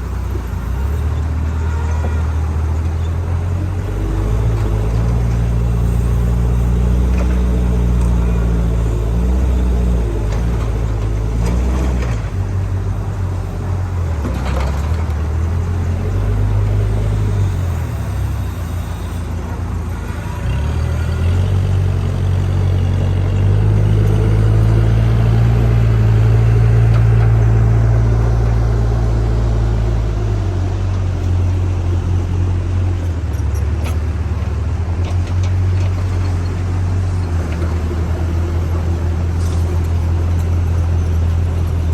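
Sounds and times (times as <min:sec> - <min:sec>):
diesel engine under varying load: 0:00.0 - 0:41.9.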